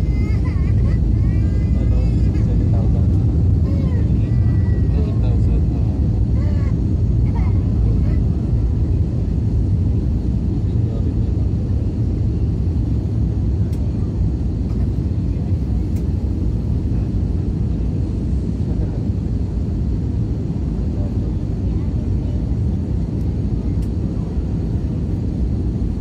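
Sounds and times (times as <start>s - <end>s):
airplane engines rumbling in cabin: 0.0s - 26.0s.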